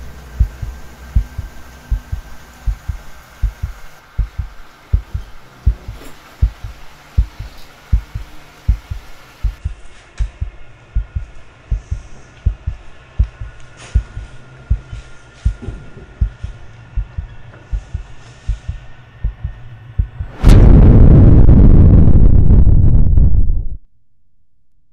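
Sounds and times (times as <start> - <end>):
loud rumbling noise: 0.0 - 23.8
faint hum: 0.0 - 23.9
heartbeat thuds: 0.4 - 21.2.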